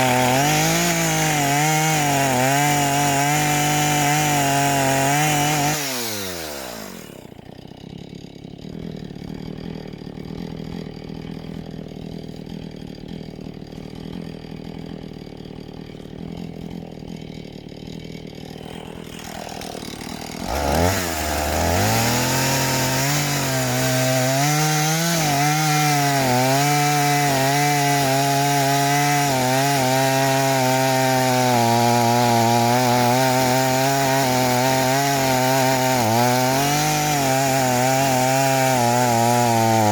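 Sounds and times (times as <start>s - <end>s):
chainsaw cutting log: 0.0s - 39.9s
chainsaw engine revving and idling: 0.0s - 39.9s.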